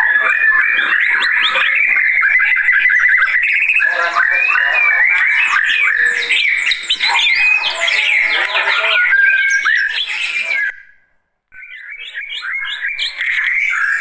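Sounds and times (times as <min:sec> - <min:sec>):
bird singing whistles and chatters: 0:00.0 - 0:10.8, 0:11.6 - 0:14.0.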